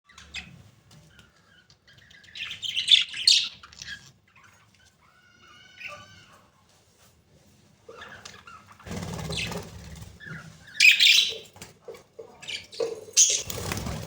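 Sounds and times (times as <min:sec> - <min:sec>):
budgerigars chirping and chattering: 0:00.1 - 0:06.4, 0:07.8 - 0:14.0.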